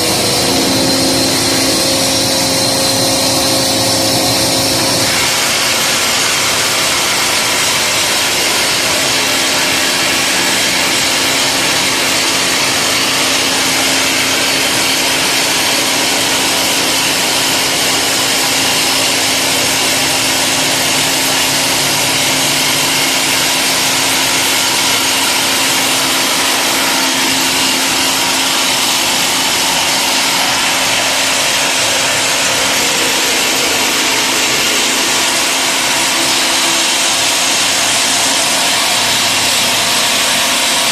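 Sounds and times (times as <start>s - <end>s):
mechanical hum: 0.0s - 40.9s
rock drill hammering: 0.0s - 40.9s.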